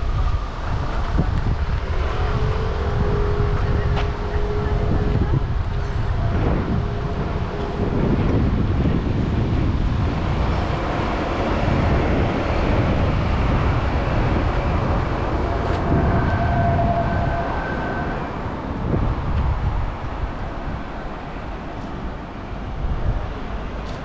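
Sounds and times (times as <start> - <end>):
road noise: 0.0 - 24.0
wind rumbling on microphone: 0.0 - 24.0.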